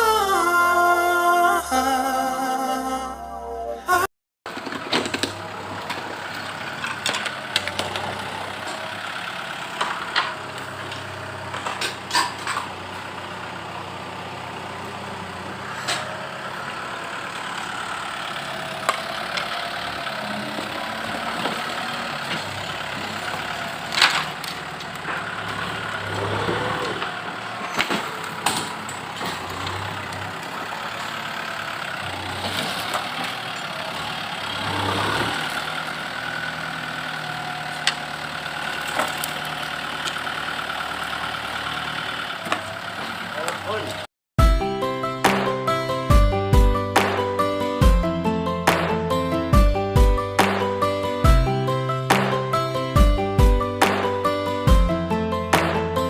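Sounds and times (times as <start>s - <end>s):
engine running: 4.5s - 56.0s.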